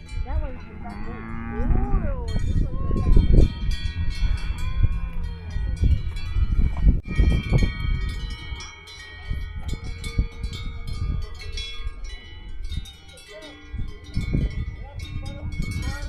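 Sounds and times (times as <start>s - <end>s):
low rumbling noise: 0.0s - 12.9s
cowbells clanging: 0.0s - 16.0s.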